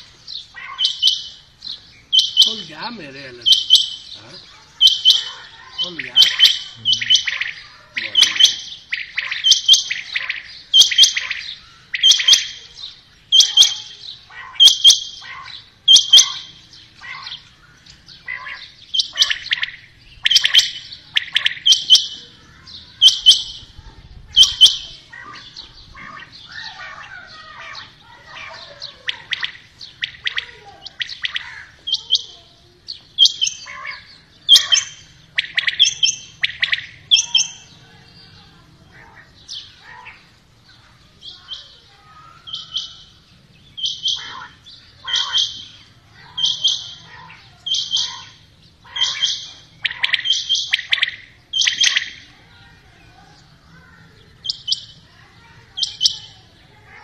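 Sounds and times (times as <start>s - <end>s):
quails calling: 0.0s - 57.0s
soft chirping: 0.0s - 57.0s.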